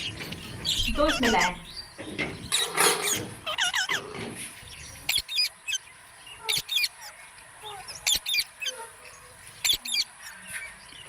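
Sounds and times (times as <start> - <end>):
parrots chirping: 0.0 - 11.0.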